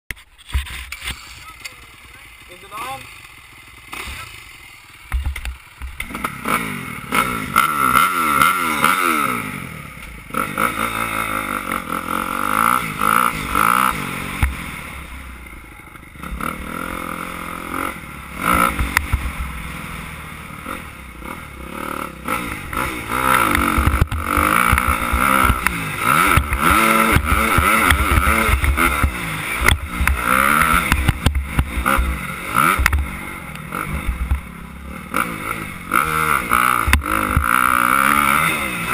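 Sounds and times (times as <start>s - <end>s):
motocross engine revving: 0.5s - 38.9s.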